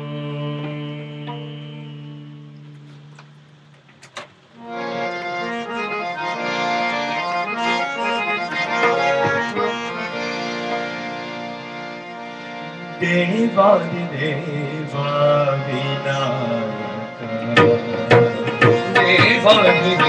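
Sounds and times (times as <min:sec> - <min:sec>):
harmonium melody: 0:00.0 - 0:03.3, 0:04.6 - 0:20.0.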